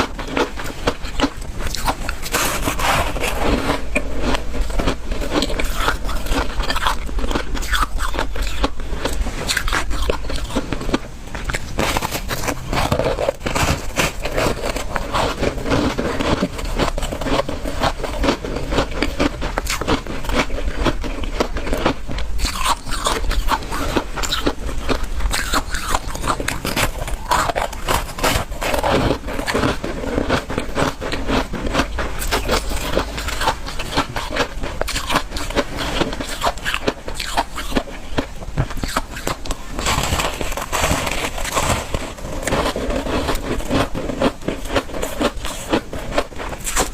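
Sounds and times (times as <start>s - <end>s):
ice crunching while chewed: 0.0s - 46.9s.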